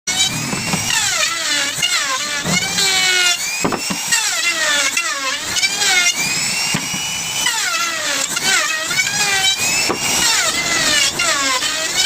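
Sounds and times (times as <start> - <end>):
power tool whining through wood: 0.1 - 12.0.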